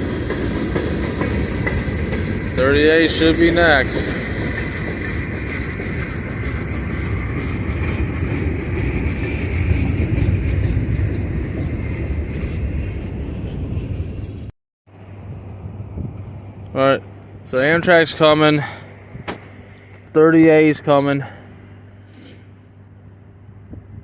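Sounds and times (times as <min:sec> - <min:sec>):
train cars rumbling on rails: 0:00.0 - 0:24.0.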